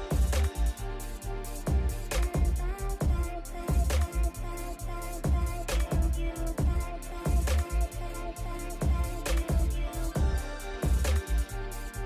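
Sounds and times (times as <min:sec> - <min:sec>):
heavy bass: 0:00.0 - 0:12.0
steady drum beat: 0:00.0 - 0:12.0.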